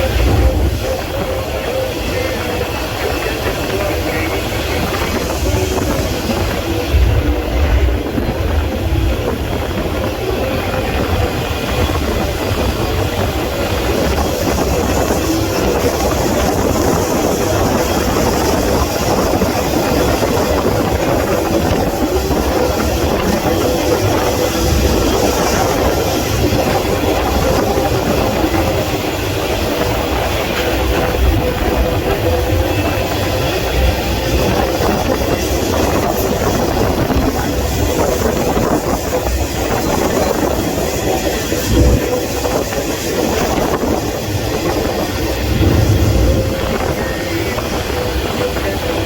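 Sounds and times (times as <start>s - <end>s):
freight train rumble and rattle: 0.0s - 49.0s
train jolts: 0.0s - 49.0s.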